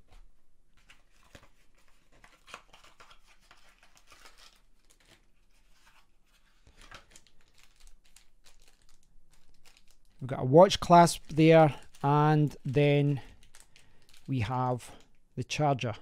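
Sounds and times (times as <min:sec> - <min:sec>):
plastic bags rustling: 0:00.8 - 0:15.1.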